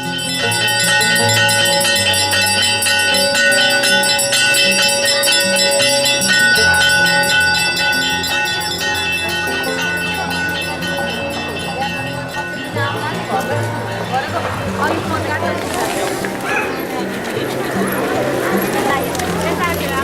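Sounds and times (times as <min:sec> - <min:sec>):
music with bell-like chimes: 0:00.0 - 0:15.0, 0:15.6 - 0:20.0.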